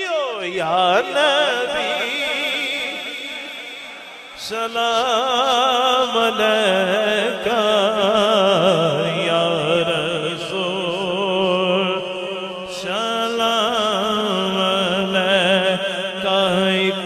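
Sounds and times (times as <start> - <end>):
man singing through a microphone: 0.0 - 17.0.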